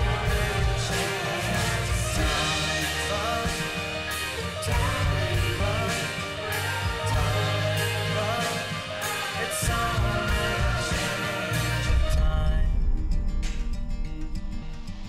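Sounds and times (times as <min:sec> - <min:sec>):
person singing: 0:00.0 - 0:12.9
drum beat: 0:00.0 - 0:13.6
rock song: 0:00.0 - 0:14.0.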